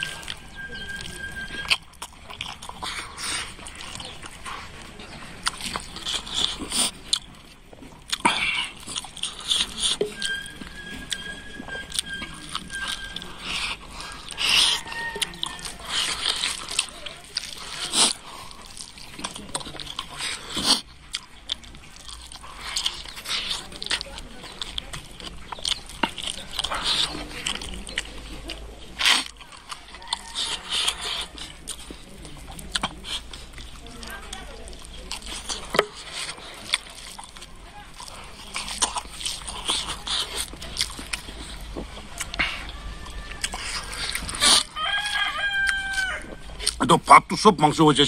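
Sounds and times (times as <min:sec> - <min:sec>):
chewing and lip smacks: 0:00.0 - 0:48.0
slurping: 0:00.0 - 0:48.0.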